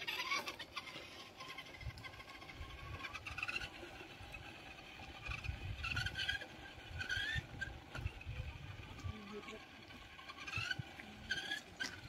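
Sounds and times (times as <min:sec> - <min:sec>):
low uneven rumble: 0:00.0 - 0:12.0.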